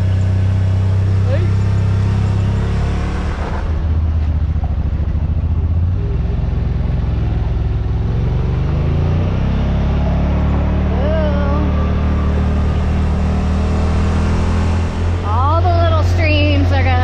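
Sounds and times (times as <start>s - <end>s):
utility vehicle engine droning: 0.0s - 17.0s.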